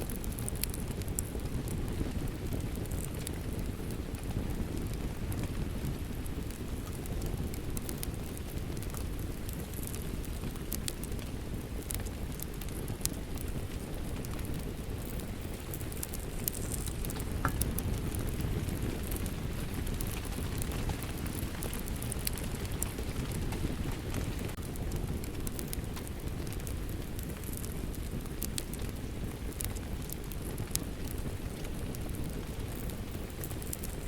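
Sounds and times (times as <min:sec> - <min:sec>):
steady rain: 0:00.0 - 0:34.0
wood fire crackling: 0:00.0 - 0:34.0.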